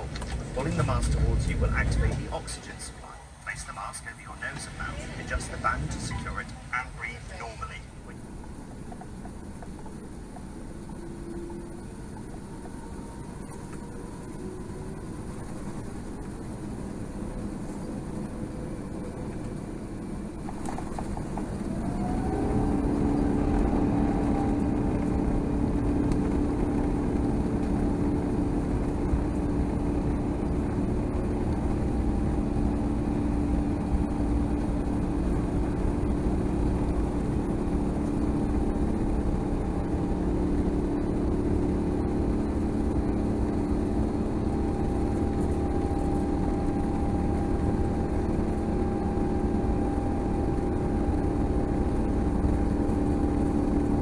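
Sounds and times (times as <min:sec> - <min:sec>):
jet engines spooling up: 0:00.0 - 0:54.0.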